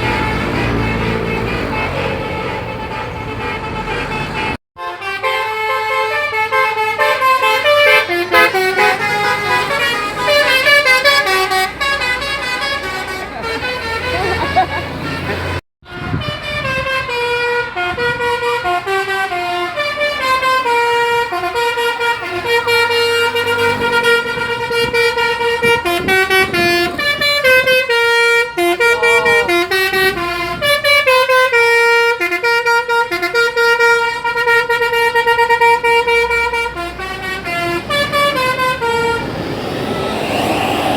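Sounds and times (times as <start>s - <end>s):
multi-tone musical air horn tune: 0.0s - 39.4s.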